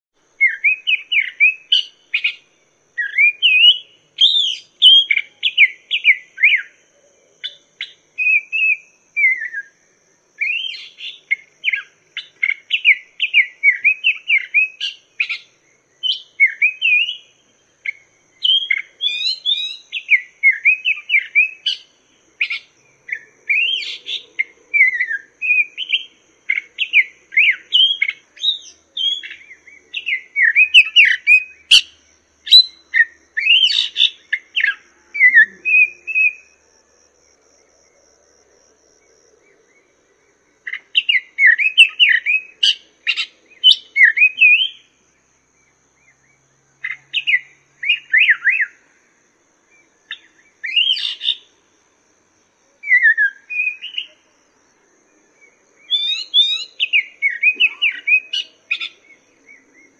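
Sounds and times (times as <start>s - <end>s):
bird singing whistled notes: 0.3s - 9.8s, 10.4s - 36.7s, 39.0s - 48.9s, 49.7s - 51.5s, 52.8s - 54.6s, 55.2s - 59.9s.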